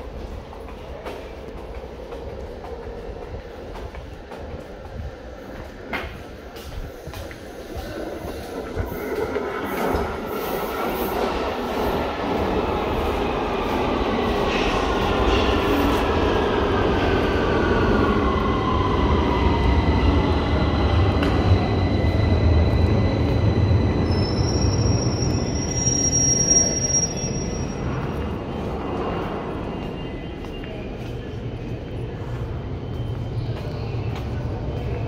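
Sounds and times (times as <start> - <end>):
underground train rumble: 0.0 - 35.0
high train squeal: 6.6 - 35.0.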